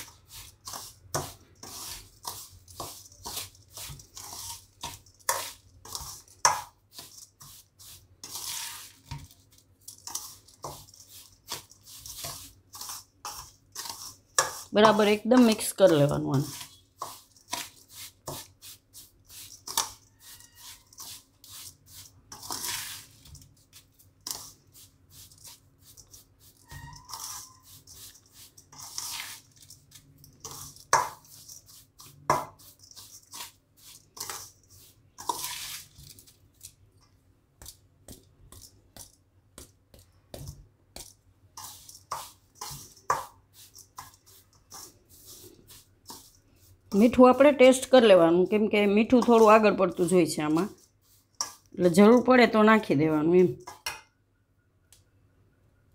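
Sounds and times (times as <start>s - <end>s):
metal spoon scraping bowl: 0.0s - 36.3s, 41.5s - 54.0s.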